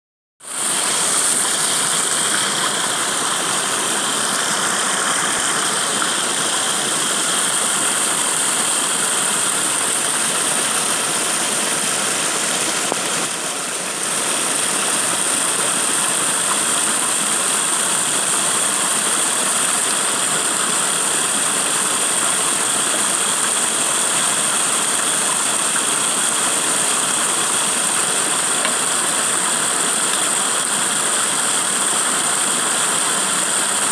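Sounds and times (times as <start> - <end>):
water rushing over rocks: 0.4 - 33.9.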